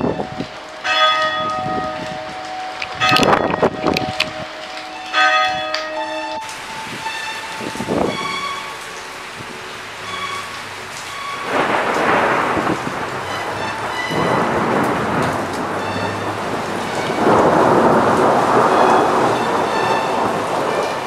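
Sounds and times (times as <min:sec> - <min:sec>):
thunder rolling: 0:00.0 - 0:08.7, 0:11.1 - 0:21.0
heavy rain falling: 0:00.0 - 0:21.0.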